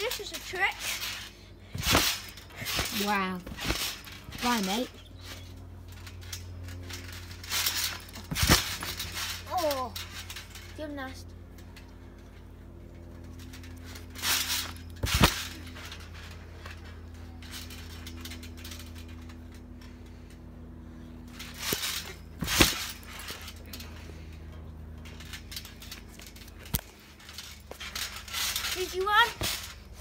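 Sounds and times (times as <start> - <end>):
trampoline mat thudding: 0.0 - 10.8, 13.0 - 19.6, 21.2 - 24.4, 25.0 - 30.0
steady low hum: 0.0 - 30.0.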